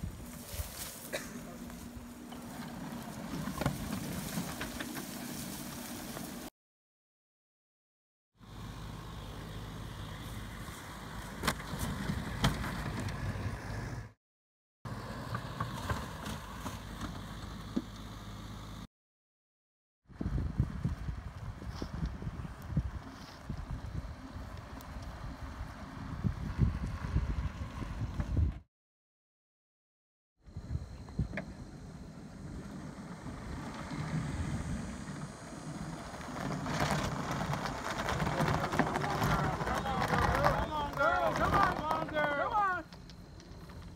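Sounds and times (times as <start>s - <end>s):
vehicle low hum: 0.0s - 6.5s, 8.4s - 14.2s, 14.9s - 18.9s, 20.1s - 28.6s, 30.4s - 43.9s.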